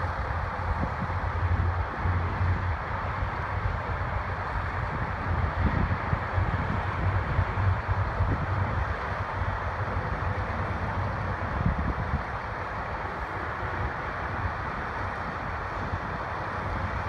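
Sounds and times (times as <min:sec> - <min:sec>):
train rumbling: 0:00.0 - 0:17.0
wind on microphone: 0:00.0 - 0:17.0.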